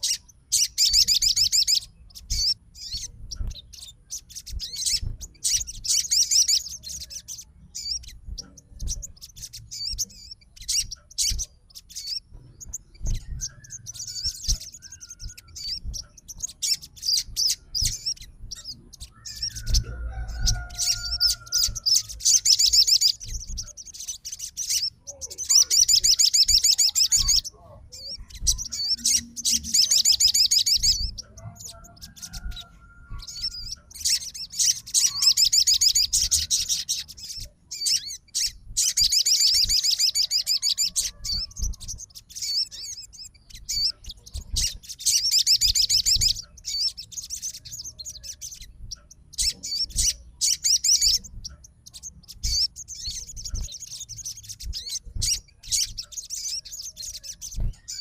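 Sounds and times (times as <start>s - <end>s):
songbird trilling chatter: 0.0s - 58.0s.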